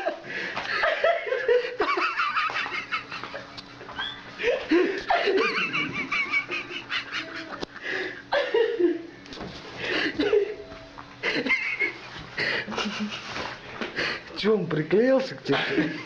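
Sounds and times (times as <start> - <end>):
person giggling: 0.0 - 9.2, 9.8 - 14.1, 15.5 - 16.0.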